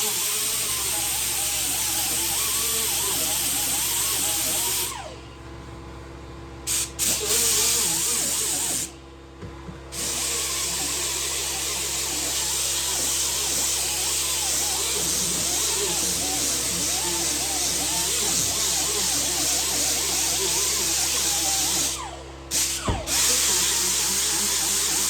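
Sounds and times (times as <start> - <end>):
grinder grinding metal: 0.0 - 5.1, 6.7 - 8.9, 10.0 - 25.0.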